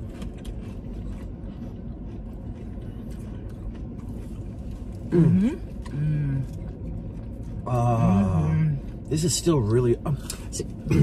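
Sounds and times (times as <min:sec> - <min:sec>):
low car interior hum: 0:00.0 - 0:11.0
people eating: 0:00.0 - 0:11.0.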